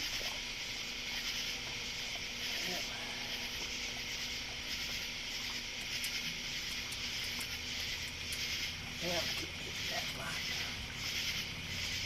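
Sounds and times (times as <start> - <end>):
faint low hum: 0.0 - 12.0
night insects chirping: 0.0 - 12.0.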